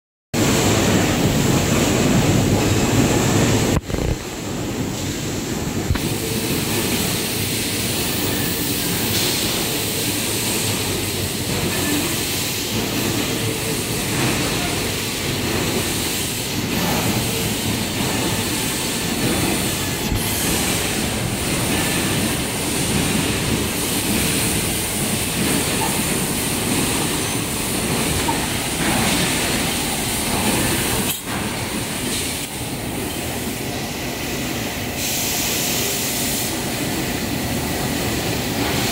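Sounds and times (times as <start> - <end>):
industrial rollers and winding machinery: 0.4 - 38.9.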